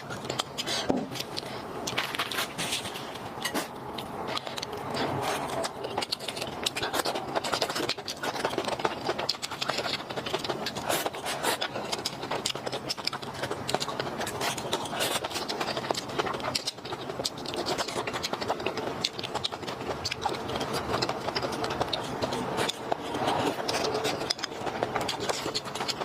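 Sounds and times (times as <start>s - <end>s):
eating clicks and crackles: 0.0s - 26.0s.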